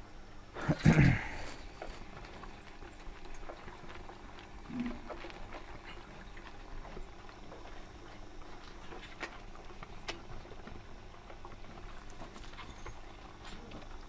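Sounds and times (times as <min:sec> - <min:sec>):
calf sucking and slurping: 0:00.6 - 0:14.0.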